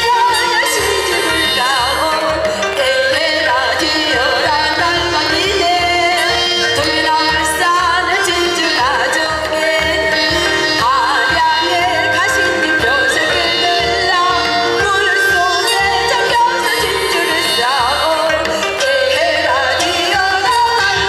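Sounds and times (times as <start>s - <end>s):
woman singing with vibrato: 0.0s - 21.0s.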